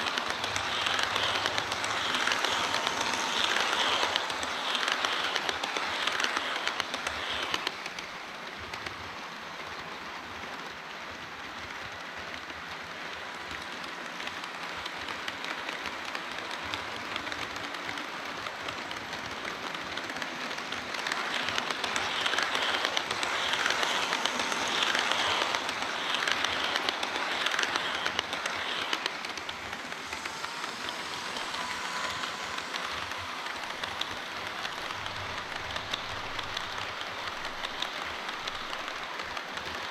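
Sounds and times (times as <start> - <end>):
model train wheels clattering on rails: 0.0 - 39.9.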